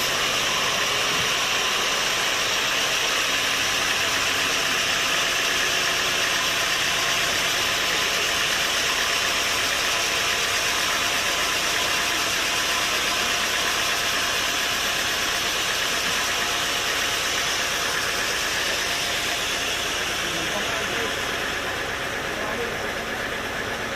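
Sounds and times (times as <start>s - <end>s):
sawmill machinery running: 0.0s - 23.9s.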